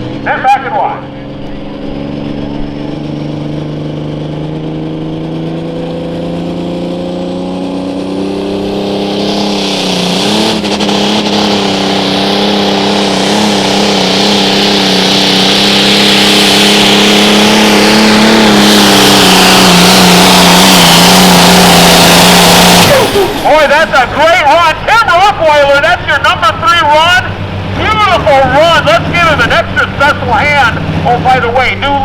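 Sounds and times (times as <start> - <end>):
pulling vehicle engine at full throttle: 0.0 - 32.0.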